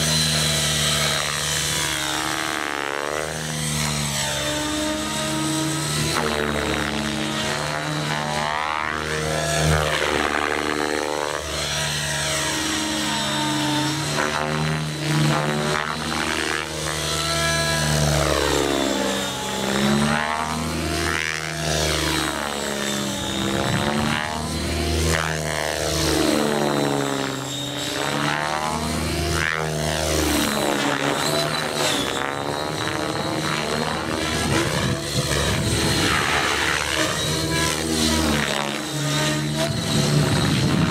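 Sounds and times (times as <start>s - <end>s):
helicopter rotor blades and motor: 0.0s - 40.9s
thin high whine: 0.0s - 40.9s.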